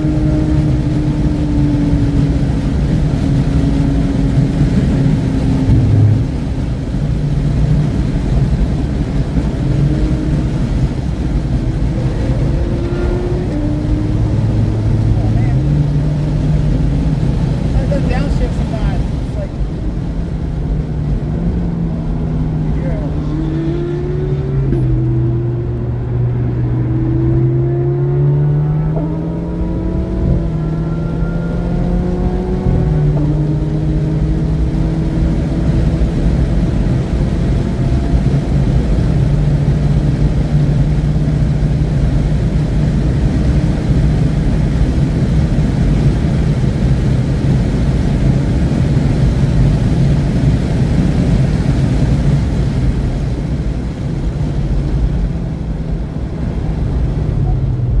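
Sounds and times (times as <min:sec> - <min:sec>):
car engine running hard: 0:00.0 - 0:58.0
wind and road noise: 0:00.0 - 0:58.0.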